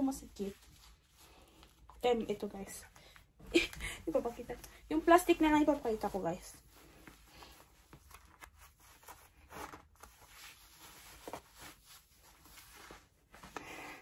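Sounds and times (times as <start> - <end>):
clothing rustling: 0.0 - 14.0.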